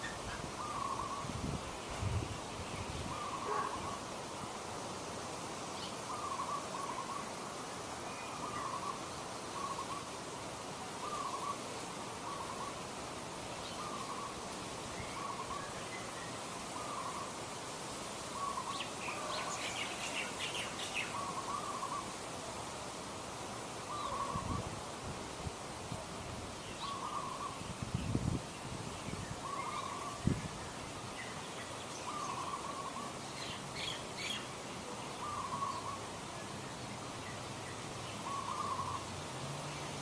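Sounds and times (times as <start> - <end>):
background hiss: 0.0 - 40.0.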